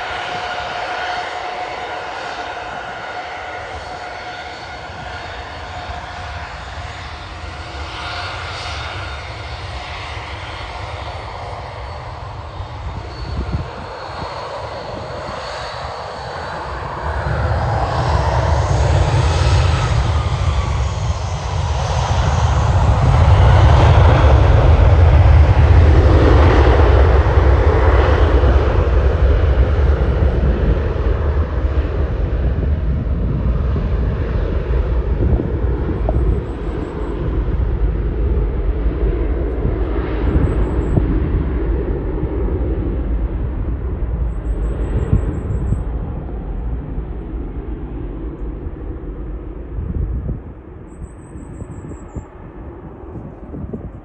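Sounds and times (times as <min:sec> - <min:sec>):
jet engines rumbling: 0:00.0 - 0:54.0
jet engines whining: 0:00.0 - 0:54.0.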